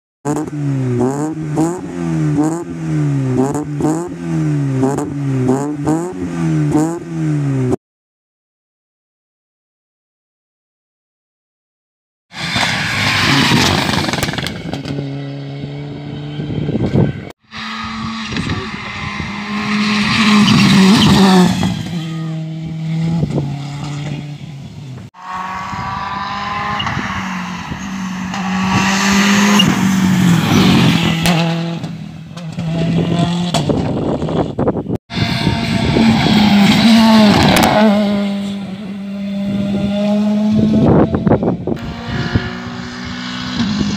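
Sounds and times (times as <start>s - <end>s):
rally car engine revving: 0.3s - 7.8s, 12.4s - 43.9s.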